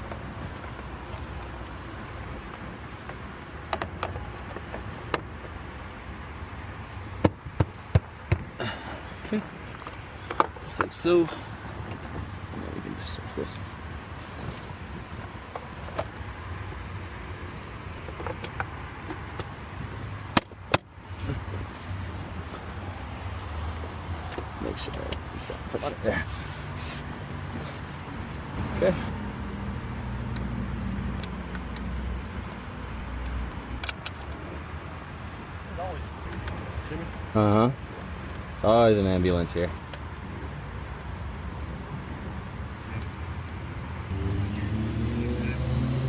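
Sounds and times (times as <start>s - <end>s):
engine parts clicking and knocking: 0.0s - 13.7s, 14.3s - 26.7s, 30.3s - 44.1s
background traffic hum: 0.0s - 46.0s.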